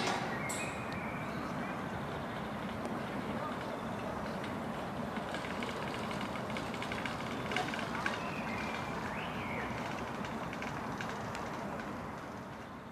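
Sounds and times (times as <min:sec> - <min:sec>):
road traffic hum: 0:00.0 - 0:12.9.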